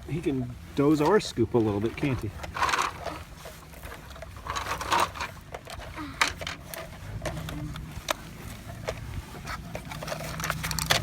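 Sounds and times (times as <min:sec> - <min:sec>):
toy dozer scraping soil: 0:00.0 - 0:11.0
toy trucks clicking and knocking: 0:01.0 - 0:11.0.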